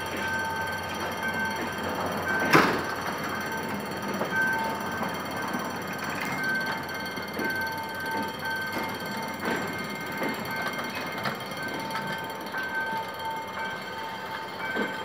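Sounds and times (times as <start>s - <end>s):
train wheels knocking over rail joints: 0.0s - 15.0s
two-tone electronic alarm beeping: 0.0s - 15.0s.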